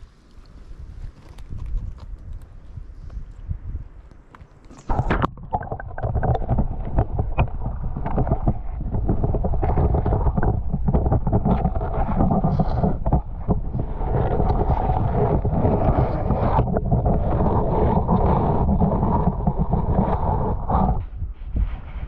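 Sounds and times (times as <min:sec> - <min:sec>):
muffled brook water underwater: 0:00.0 - 0:22.0.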